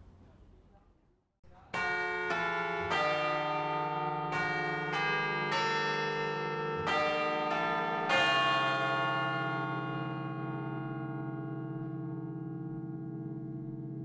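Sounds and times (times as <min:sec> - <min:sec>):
church bells ringing: 0:01.7 - 0:14.0.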